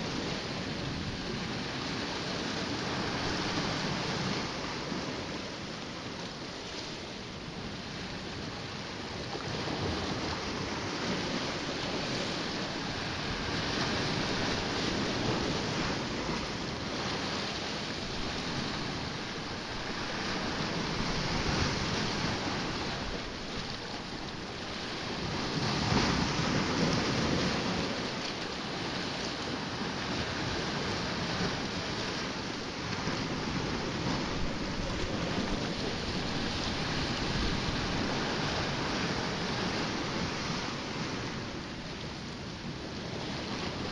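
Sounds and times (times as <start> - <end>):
waves washing on rocky shore: 0.0 - 43.9.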